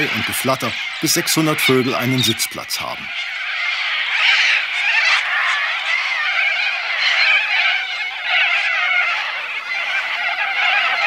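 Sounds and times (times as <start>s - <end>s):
flock of birds screeching: 0.0s - 11.0s.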